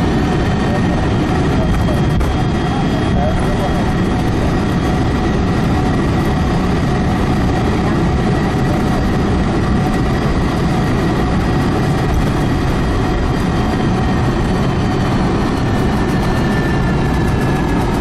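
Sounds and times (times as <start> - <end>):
faint engine whine: 0.0 - 18.0
jet engine roar in cabin: 0.0 - 18.0.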